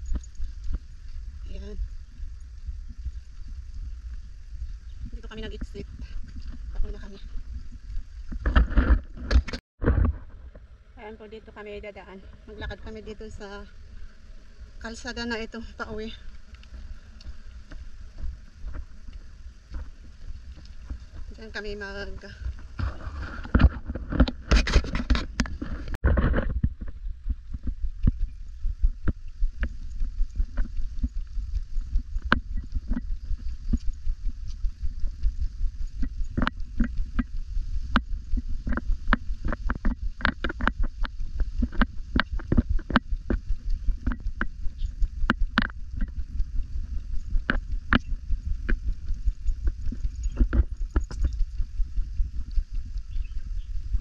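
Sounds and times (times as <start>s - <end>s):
low rumble of moving camera: 0.0s - 54.0s.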